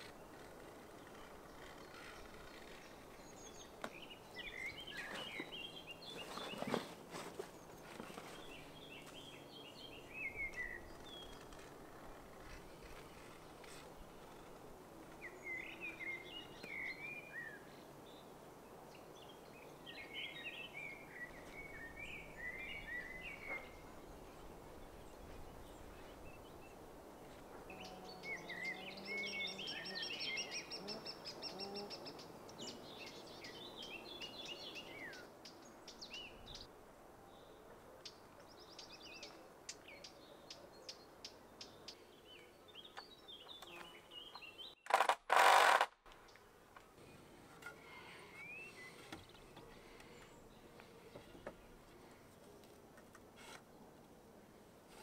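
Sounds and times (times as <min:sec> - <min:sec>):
low outdoor background: 0:00.0 - 0:55.0
songbirds chirping: 0:00.0 - 0:55.0.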